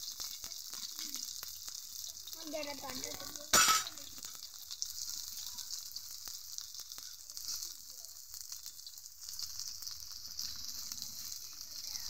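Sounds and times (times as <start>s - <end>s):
fritters sizzling in oil: 0.0s - 12.0s.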